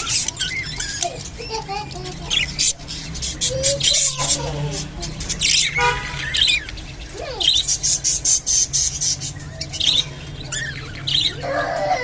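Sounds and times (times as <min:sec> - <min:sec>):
budgerigars clicking chatter: 0:00.0 - 0:12.0
budgerigars squawking: 0:00.0 - 0:12.0.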